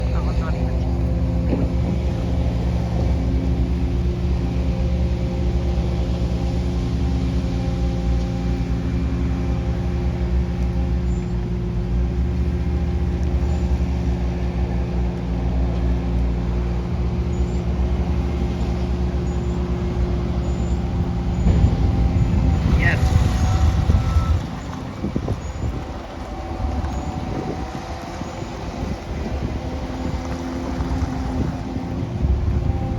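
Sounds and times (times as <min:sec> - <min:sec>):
skid steer engine running: 0:00.0 - 0:32.9.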